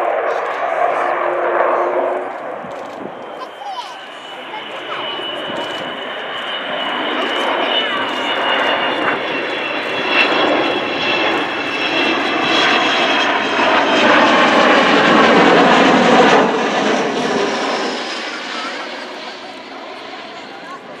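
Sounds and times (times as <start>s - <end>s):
jet aircraft roaring past: 0.0s - 21.0s.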